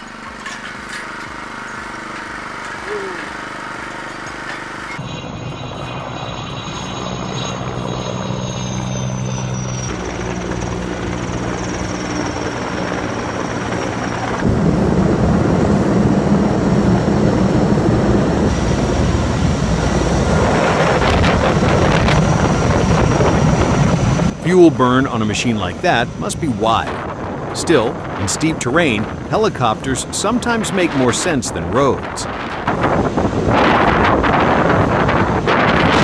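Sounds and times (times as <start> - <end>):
helicopter engine and rotor: 0.0 - 36.0.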